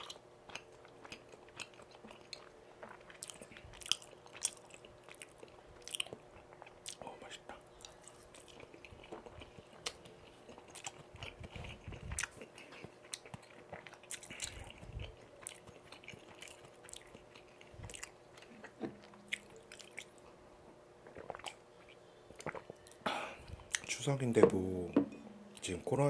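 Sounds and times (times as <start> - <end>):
close chewing with mouth smacks: 0.0 - 20.4, 21.0 - 23.9.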